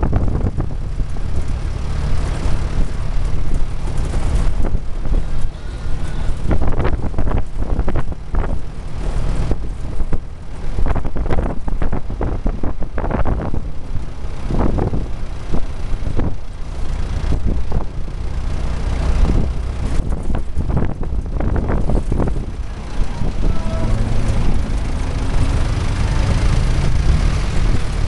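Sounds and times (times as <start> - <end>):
vehicle driving rumble: 0.0 - 28.0
wind buffeting microphone: 0.0 - 28.0.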